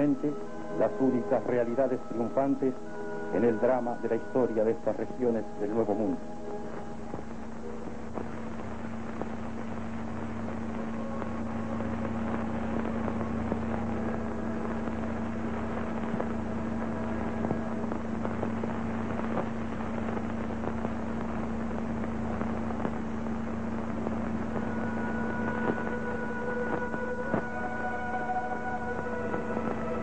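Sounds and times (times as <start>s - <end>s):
film soundtrack hiss and hum: 0.0s - 30.0s.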